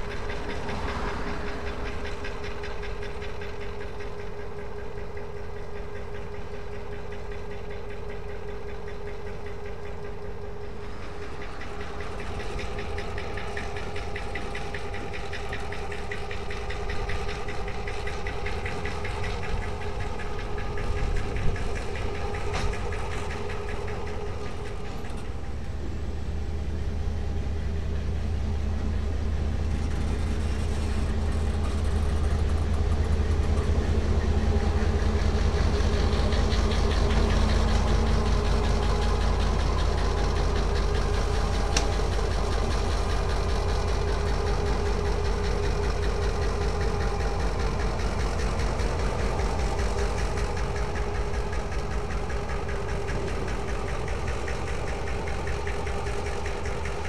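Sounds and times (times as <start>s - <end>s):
locomotive engines drumming: 0.0s - 57.0s.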